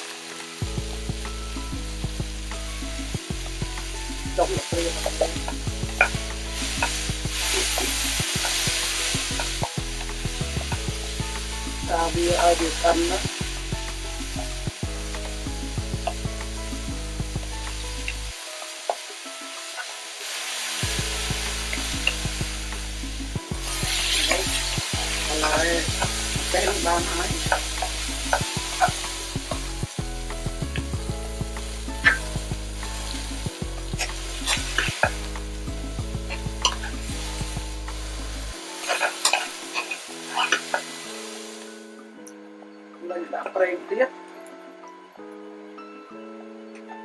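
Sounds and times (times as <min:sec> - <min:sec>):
peppers sizzling in a wok: 0:00.0 - 0:42.2.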